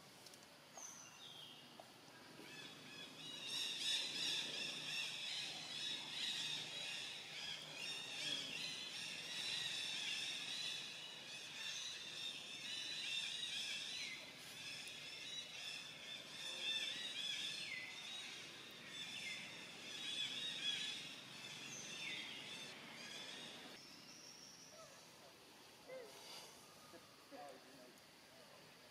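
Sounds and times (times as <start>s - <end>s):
high chirping wildlife calls: 2.3s - 27.2s.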